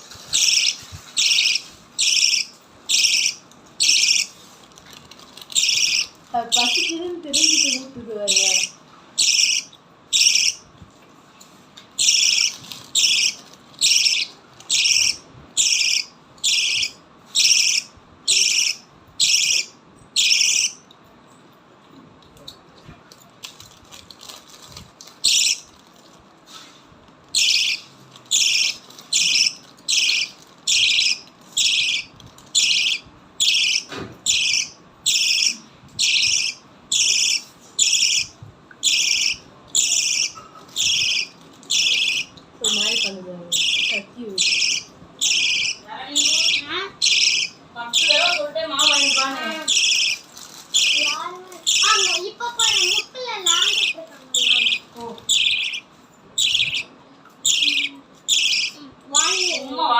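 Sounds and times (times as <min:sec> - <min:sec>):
lovebirds calling: 0:00.0 - 0:04.4, 0:05.4 - 0:10.7, 0:12.0 - 0:20.9, 0:25.2 - 0:25.8, 0:27.3 - 0:59.9.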